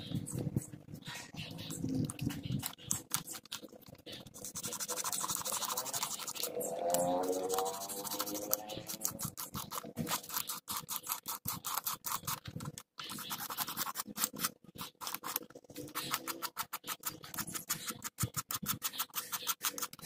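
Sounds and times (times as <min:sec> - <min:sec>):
scratching on circuit board: 0:00.0 - 0:20.0.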